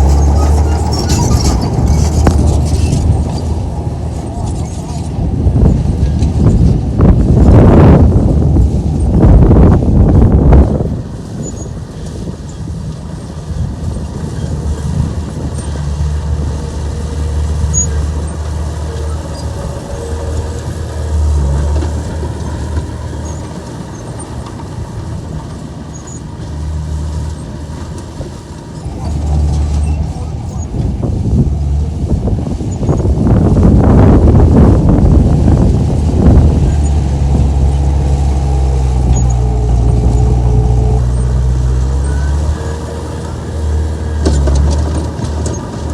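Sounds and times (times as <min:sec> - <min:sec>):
bulldozer diesel engine humming: 0:00.0 - 0:45.9.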